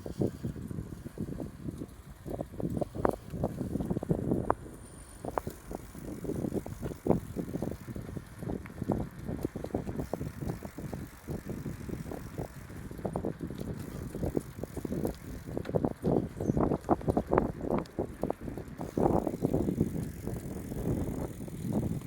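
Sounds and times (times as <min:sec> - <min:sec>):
bicycle rattling over bumps: 0:00.0 - 0:22.0.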